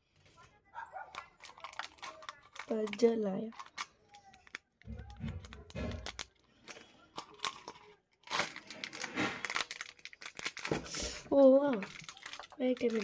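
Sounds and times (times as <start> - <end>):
plastic wrappers crinkling: 0.1 - 13.0.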